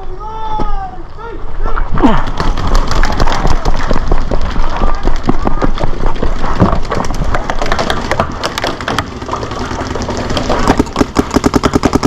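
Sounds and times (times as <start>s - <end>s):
paintballs cracking against bunkers: 2.0s - 12.0s
paintball markers firing: 2.2s - 12.0s.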